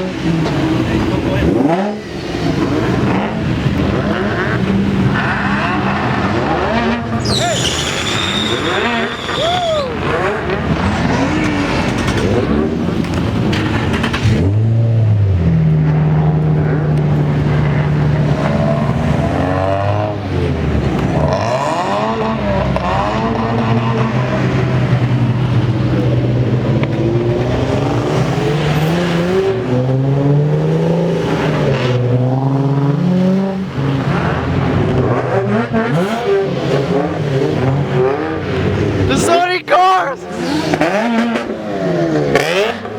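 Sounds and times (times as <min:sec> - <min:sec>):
car engines revving and pulling away: 0:00.0 - 0:42.9.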